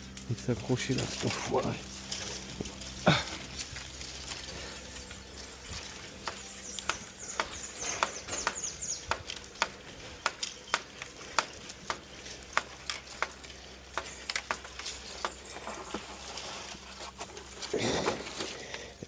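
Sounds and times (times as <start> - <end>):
brush rustling: 0.0 - 19.0
dry brush snapping: 0.0 - 19.0.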